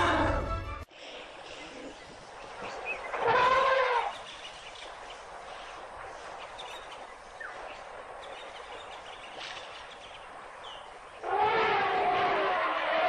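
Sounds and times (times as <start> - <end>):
outdoor background hiss: 0.8 - 13.0.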